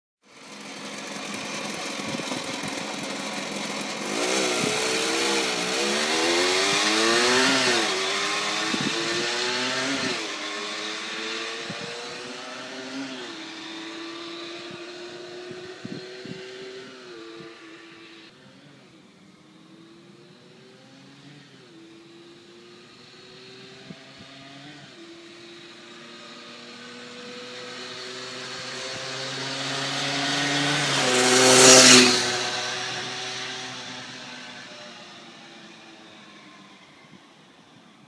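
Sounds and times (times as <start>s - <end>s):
two-stroke motorbike accelerating: 0.2s - 38.0s.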